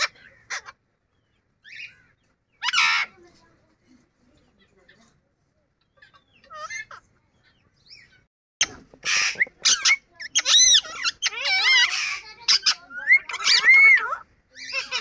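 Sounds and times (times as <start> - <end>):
parakeet talking: 0.0 - 3.4, 5.8 - 15.0.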